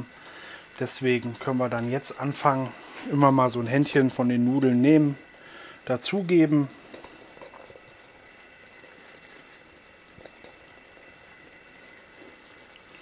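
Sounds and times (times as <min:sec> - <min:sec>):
sauce simmering in a pan: 0:00.0 - 0:13.0.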